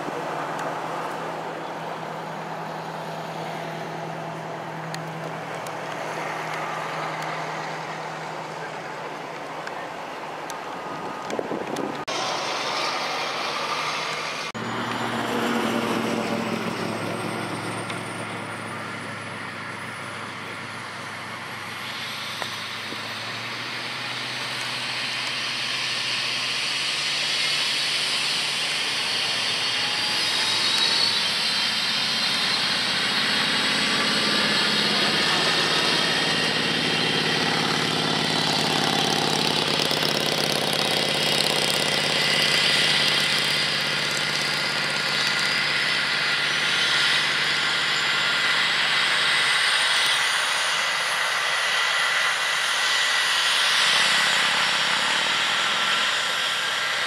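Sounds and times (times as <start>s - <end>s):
helicopter rotor noise: 0.0s - 57.0s
helicopter turbine whine: 0.0s - 57.0s.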